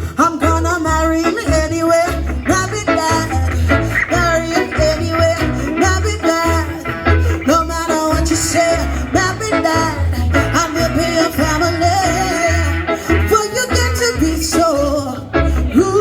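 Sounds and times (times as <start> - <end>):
live reggae band playing: 0.0 - 16.0
pulsing bass line: 0.0 - 16.0.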